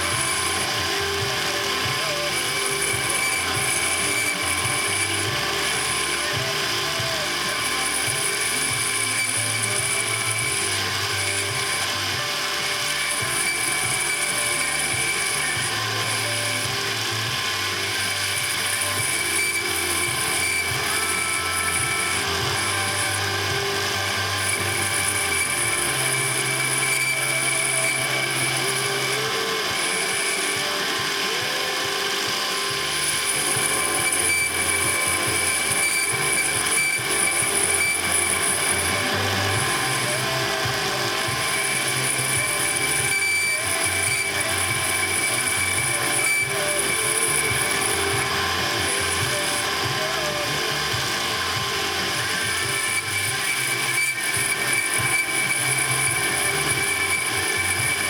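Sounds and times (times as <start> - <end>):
machinery rattling: 0.0 - 58.0.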